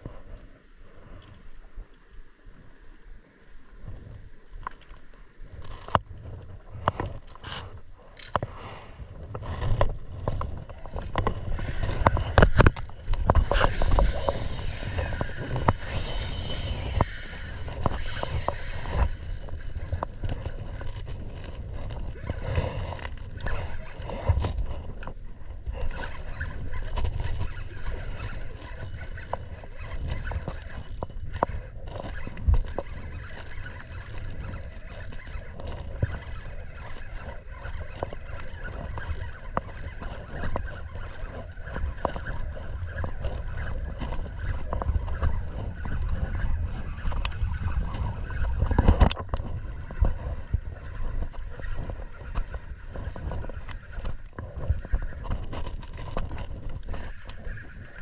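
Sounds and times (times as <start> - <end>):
wind rumbling on microphone: 0.0 - 58.0
fishing reel and rod clicking: 4.6 - 58.0
water lapping: 8.5 - 58.0.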